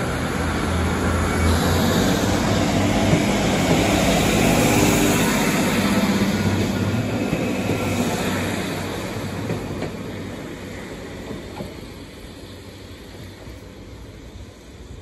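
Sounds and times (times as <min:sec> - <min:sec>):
diesel train engines: 0:00.0 - 0:15.0
train wheels on rails: 0:00.0 - 0:15.0.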